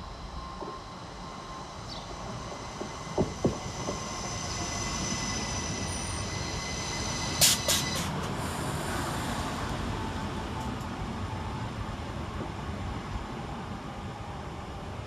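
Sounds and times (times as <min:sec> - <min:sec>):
electric train whine and rumble: 0:00.0 - 0:15.0.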